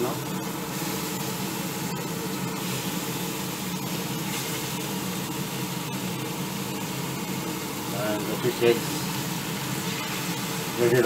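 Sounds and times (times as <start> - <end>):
fish frying in hot oil: 0.0 - 11.0
steady low hum: 0.0 - 11.0.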